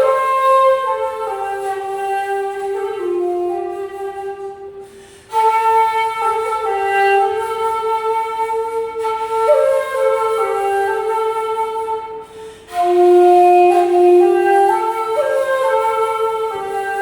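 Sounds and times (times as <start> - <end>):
bamboo flute slow held notes: 0.0 - 17.0.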